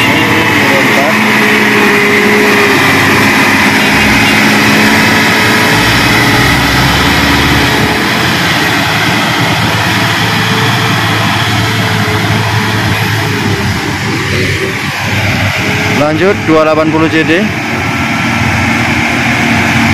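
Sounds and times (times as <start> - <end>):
diesel truck engine climbing: 0.0 - 19.9.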